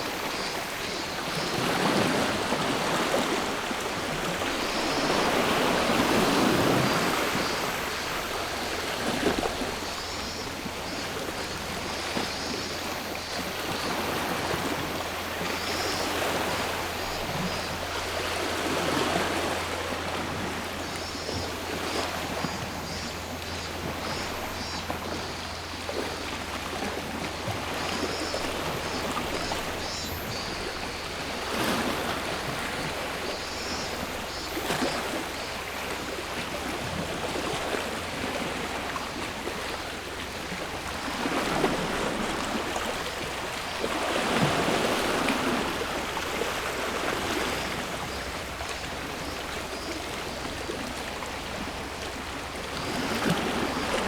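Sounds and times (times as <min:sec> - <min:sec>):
cicadas singing: 0:00.0 - 0:39.2, 0:40.0 - 0:54.0.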